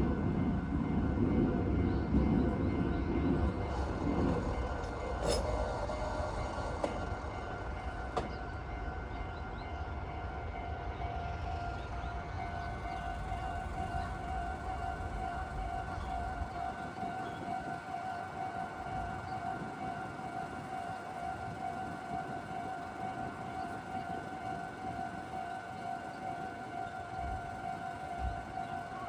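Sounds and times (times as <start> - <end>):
level crossing warning bell: 0.0 - 29.0.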